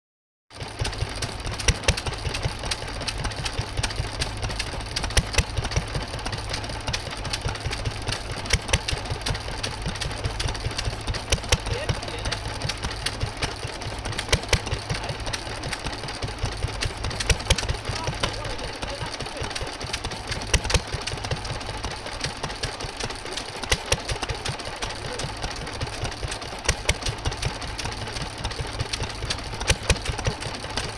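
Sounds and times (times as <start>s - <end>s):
stationary engine chugging: 0.5s - 30.9s
sharp clicks and knocks: 0.6s - 30.9s.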